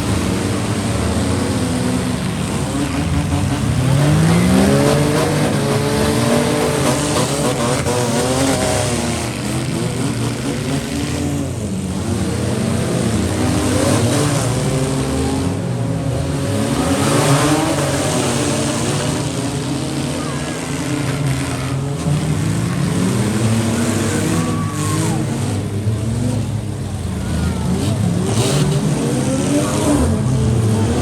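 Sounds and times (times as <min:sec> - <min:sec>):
vehicle engines revving: 0:00.0 - 0:31.0.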